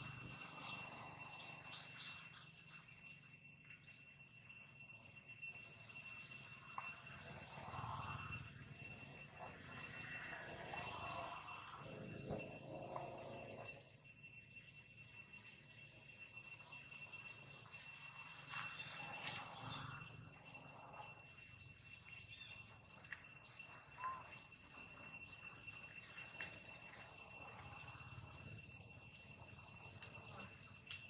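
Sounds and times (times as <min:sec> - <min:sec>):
high insect whine: 0:00.0 - 0:31.0
insects chirping: 0:00.0 - 0:31.0.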